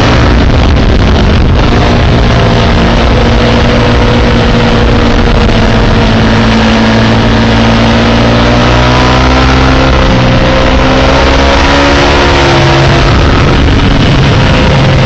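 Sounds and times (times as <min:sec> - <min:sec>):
motorcycle engine at high revs: 0:00.0 - 0:15.0
wind rush: 0:00.0 - 0:15.0.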